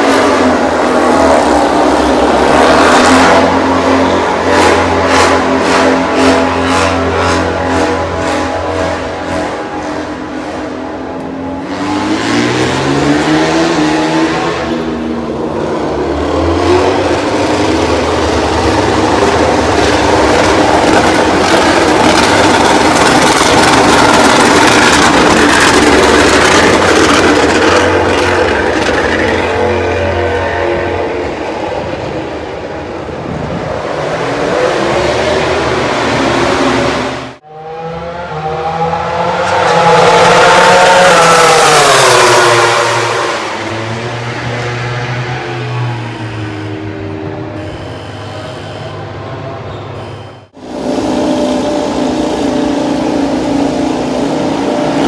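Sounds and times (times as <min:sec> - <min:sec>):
race motorcycle engines revving: 0:00.0 - 0:55.0.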